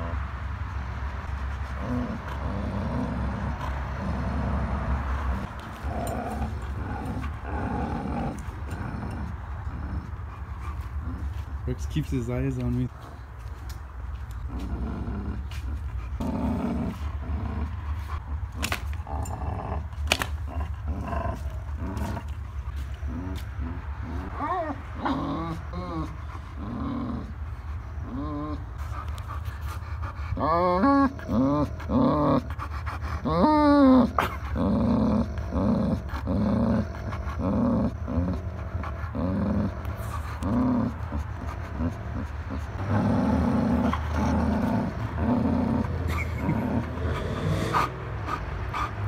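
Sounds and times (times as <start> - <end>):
dogs growling: 1.6 - 11.9, 14.2 - 49.0.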